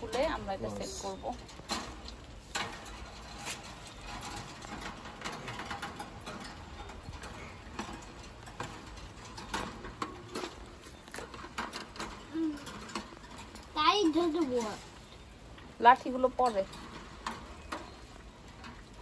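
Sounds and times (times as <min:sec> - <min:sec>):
birdcage parts clicking and tapping: 0:01.3 - 0:19.0.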